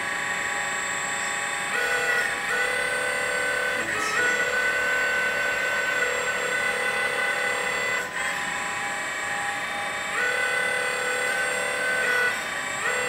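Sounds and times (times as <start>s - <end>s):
electric hydraulic pump whining: 0.0s - 13.0s.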